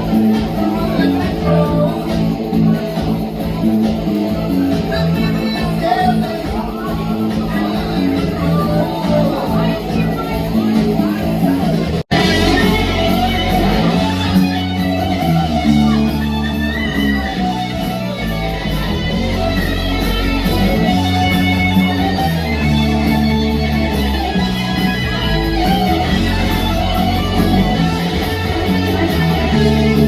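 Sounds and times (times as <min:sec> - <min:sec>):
bass guitar notes: 0:00.0 - 0:30.0
electric guitar strumming: 0:00.0 - 0:30.0.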